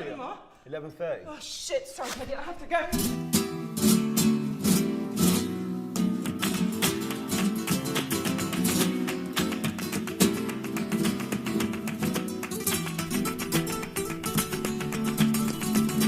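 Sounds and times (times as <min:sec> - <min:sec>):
flamenco-style acoustic guitar: 0:02.1 - 0:16.0.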